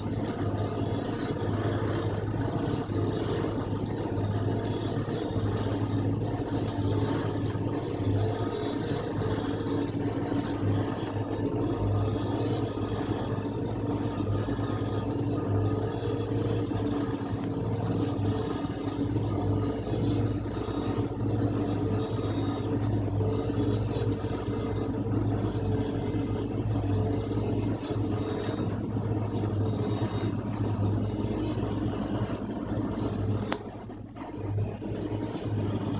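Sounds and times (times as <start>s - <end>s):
machine mechanical drone: 0.0s - 35.9s.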